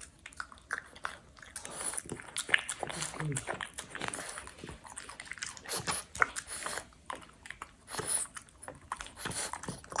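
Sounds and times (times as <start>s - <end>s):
dog chewing food: 0.0s - 10.0s
jaws clicking and smacking: 0.0s - 10.0s.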